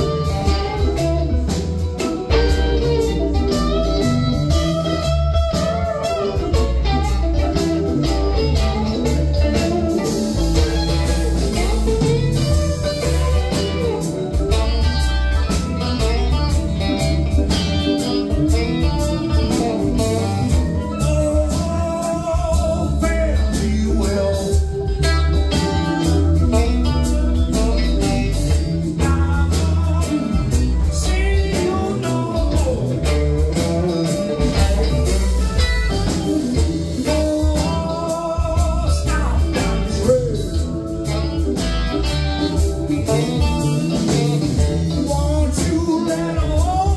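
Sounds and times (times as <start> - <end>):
drums keeping a steady beat: 0.0 - 46.9
live band playing: 0.0 - 46.9.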